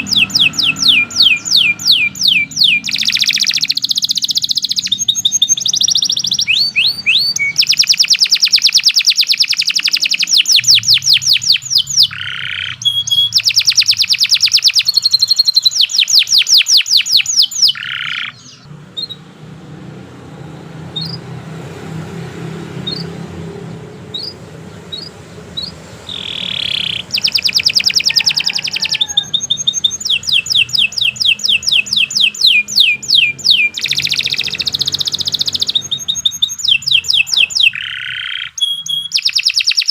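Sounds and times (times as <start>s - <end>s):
canary singing trills: 0.0s - 19.5s, 20.7s - 39.9s
canary chirps: 0.0s - 19.6s, 20.4s - 39.9s.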